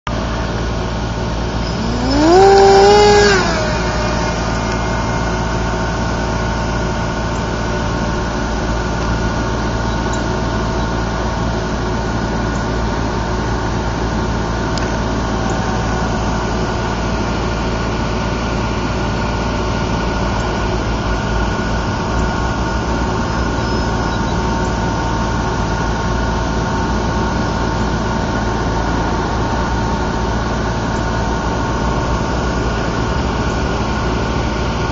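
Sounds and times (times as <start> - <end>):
electric motor propeller whine: 0.1 - 34.9.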